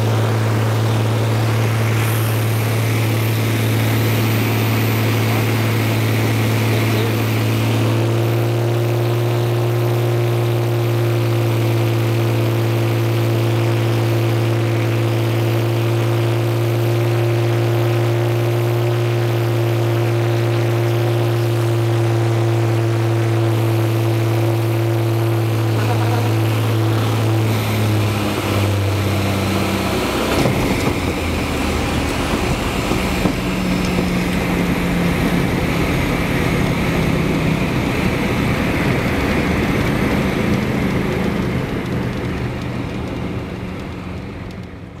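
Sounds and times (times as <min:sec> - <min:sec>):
aircraft piston engine and propeller: 0:00.0 - 0:45.0
propeller and air rush: 0:00.0 - 0:45.0.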